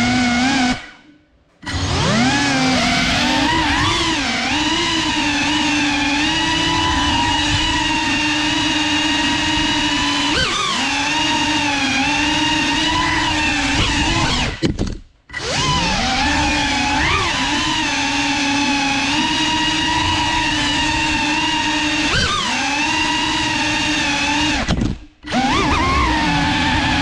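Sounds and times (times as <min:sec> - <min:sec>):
drone motors whining: 0:01.6 - 0:14.7, 0:15.3 - 0:27.0.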